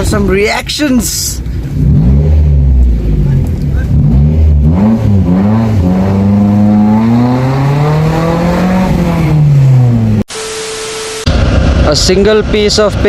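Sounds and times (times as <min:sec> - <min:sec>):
car engine revving: 0:01.6 - 0:12.5.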